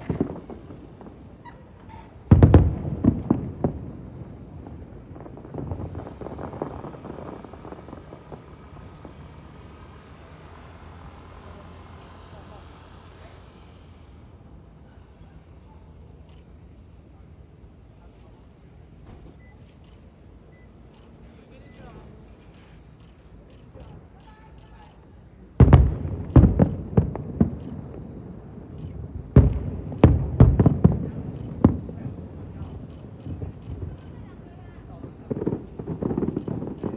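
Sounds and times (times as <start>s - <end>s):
fireworks bursting and crackling: 0.0s - 36.9s.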